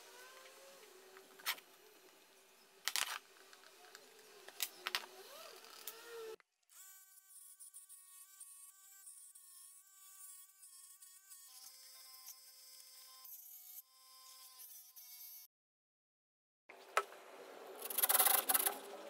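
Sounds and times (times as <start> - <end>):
electric scroll saw buzzing: 0.0 - 15.5.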